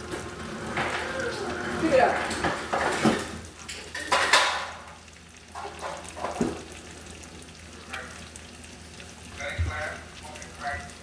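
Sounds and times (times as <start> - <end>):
food frying in a pan: 0.0 - 11.0.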